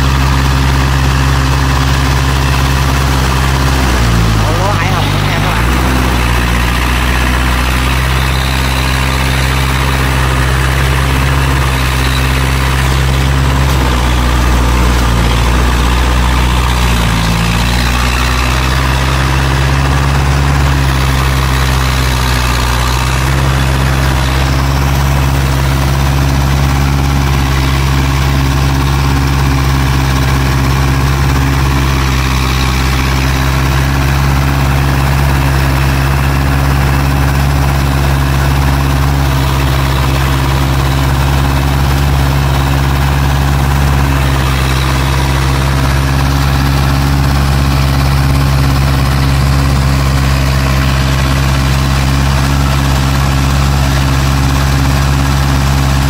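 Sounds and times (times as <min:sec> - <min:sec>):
cart engine droning: 0:00.0 - 0:56.0.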